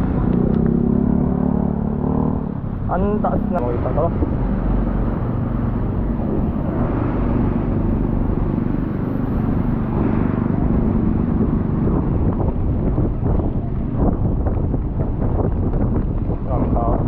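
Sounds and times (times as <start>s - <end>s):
bicycle road noise on wet pavement: 0.0s - 17.0s
wind buffeting microphone: 0.0s - 17.0s.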